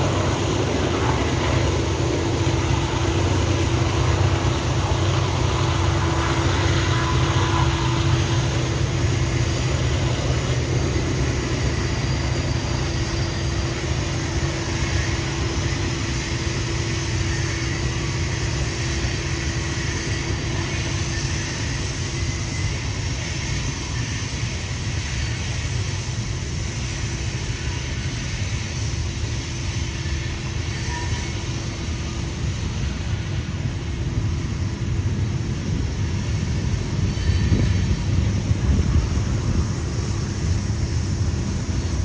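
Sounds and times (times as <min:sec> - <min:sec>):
freight train rumbling: 0:00.0 - 0:42.0.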